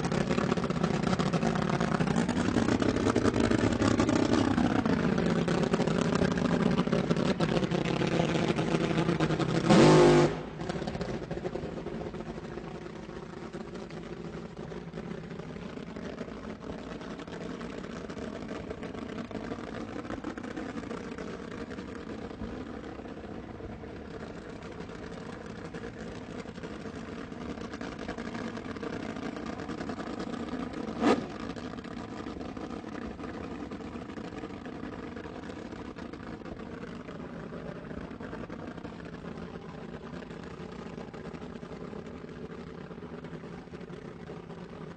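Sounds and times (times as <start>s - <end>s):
sports car engine running: 0.0s - 44.9s.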